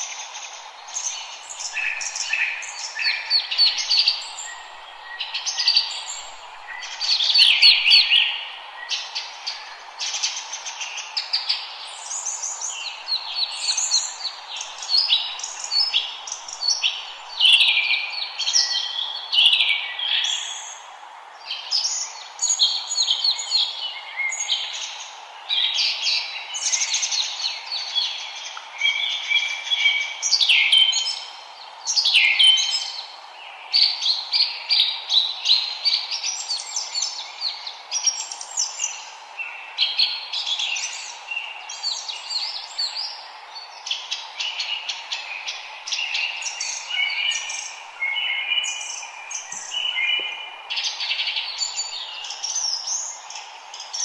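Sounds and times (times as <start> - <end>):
songbirds singing and chirping: 0.0 - 54.0
steady background hiss: 0.0 - 54.0.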